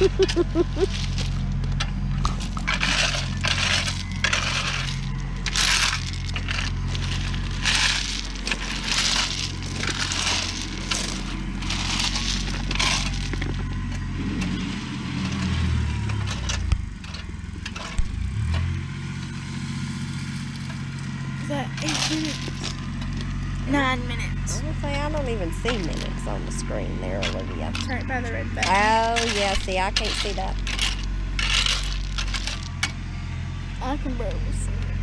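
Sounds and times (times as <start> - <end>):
loader bucket scraping gravel: 0.0 - 23.8, 24.8 - 33.8
tractor engine running: 0.0 - 35.0.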